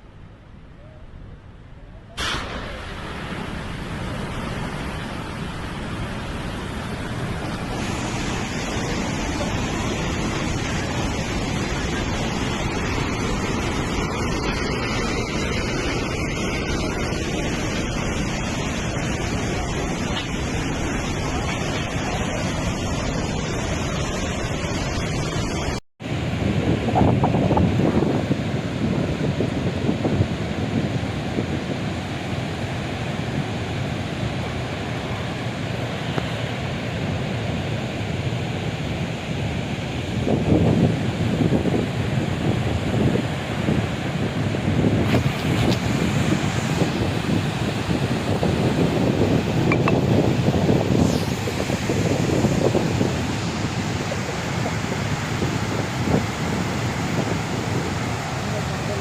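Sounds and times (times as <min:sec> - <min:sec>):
water rushing under pressure: 0:02.2 - 0:59.0.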